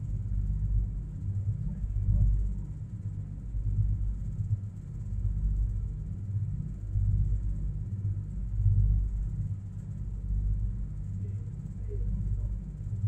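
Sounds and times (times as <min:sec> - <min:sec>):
hydrofoil engine rumble from cabin: 0:00.0 - 0:13.0.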